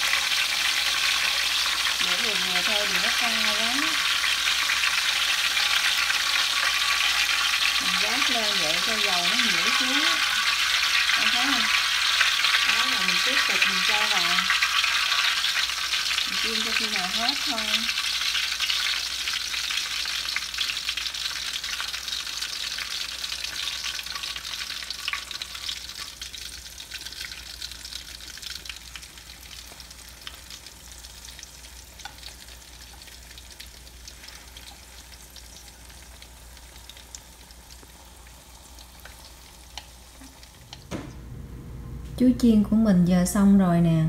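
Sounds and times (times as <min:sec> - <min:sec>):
oil sizzling and crackling: 0:00.0 - 0:41.0.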